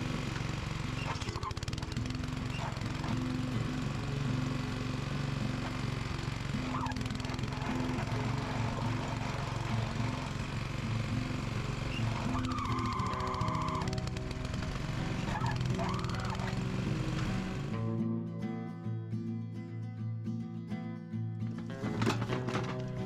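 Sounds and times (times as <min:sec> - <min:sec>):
small petrol engine running: 0:00.0 - 0:17.8, 0:21.6 - 0:23.0.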